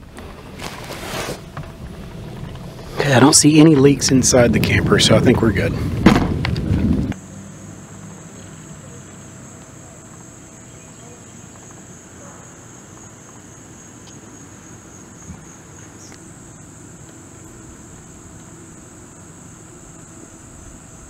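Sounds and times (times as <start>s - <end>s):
crickets trilling: 0.0s - 21.0s
faint low hum: 0.0s - 21.0s.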